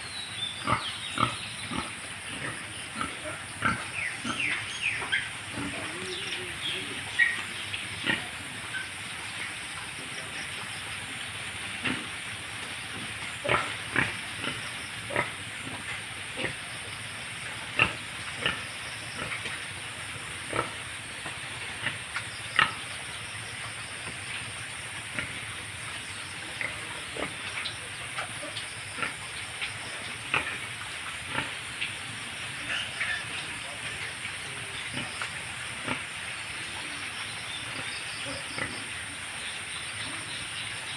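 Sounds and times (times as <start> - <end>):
steady background hiss: 0.0 - 40.9
pigs grunting and squealing: 0.6 - 19.5, 24.5 - 40.9.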